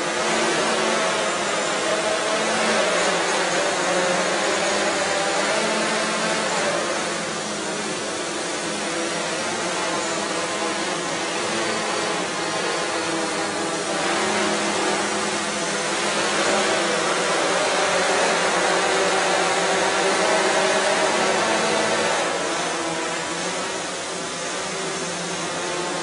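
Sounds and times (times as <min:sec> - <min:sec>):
quadrotor propellers buzzing: 0:00.0 - 0:26.0.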